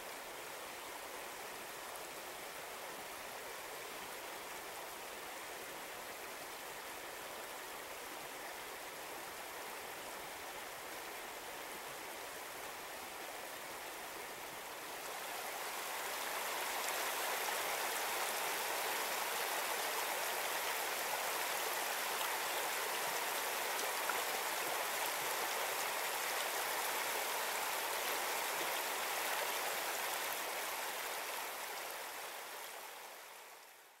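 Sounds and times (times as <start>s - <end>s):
creek water rushing over stones: 0.0s - 33.8s.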